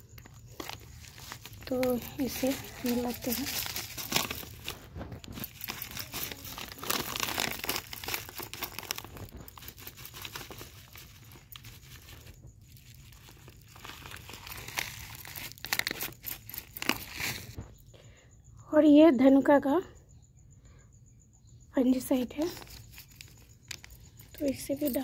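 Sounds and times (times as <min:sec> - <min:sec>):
plastic packet crinkling: 0:00.0 - 0:17.6, 0:22.5 - 0:25.0.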